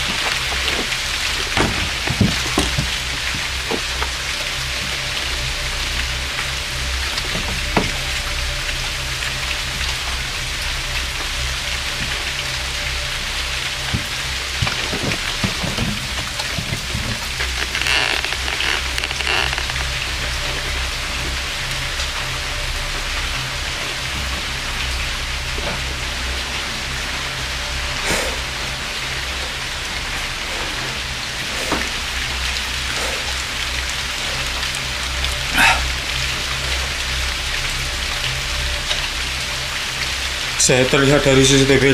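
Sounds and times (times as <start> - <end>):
raindrops striking close by: 0.0 - 41.9
steady rain falling: 0.0 - 41.9.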